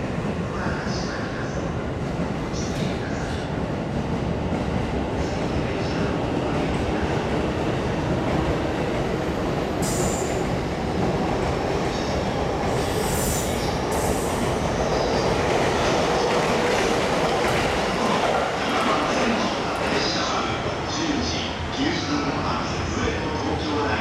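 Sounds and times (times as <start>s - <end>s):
train wheels rumbling on rails: 0.0s - 23.7s.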